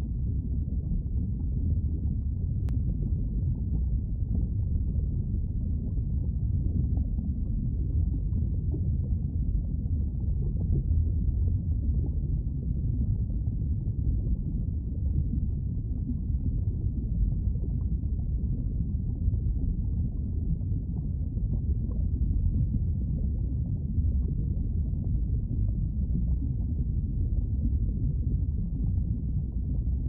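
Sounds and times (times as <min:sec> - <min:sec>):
deep steady lava rumble: 0:00.0 - 0:30.0.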